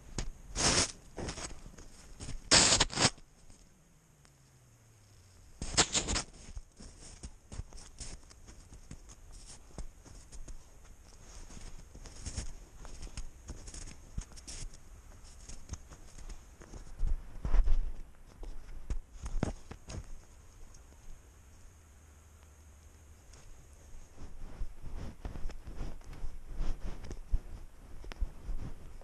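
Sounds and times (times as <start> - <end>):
cat footsteps crunching in snow: 0.0 - 3.8, 4.4 - 21.7, 22.3 - 29.0.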